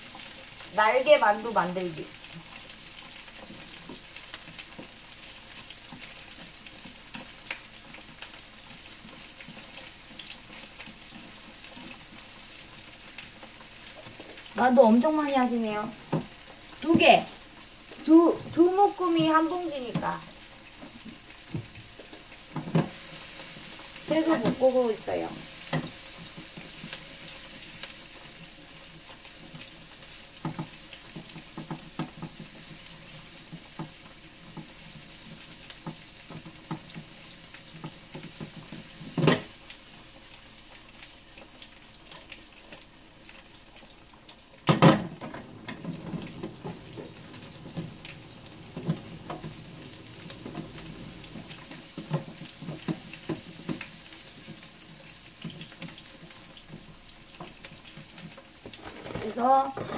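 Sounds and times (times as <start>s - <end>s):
dumplings sizzling in oil: 0.0s - 59.9s.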